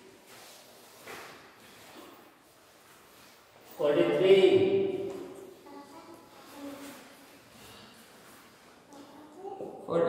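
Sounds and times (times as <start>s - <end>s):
soft rustle on exercise mats: 0.0s - 9.6s.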